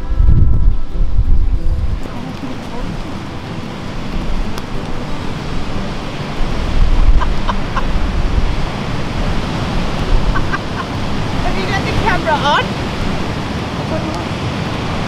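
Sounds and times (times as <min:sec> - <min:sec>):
surf rushing: 0:00.0 - 0:15.0
wind rumble on microphone: 0:00.0 - 0:15.0.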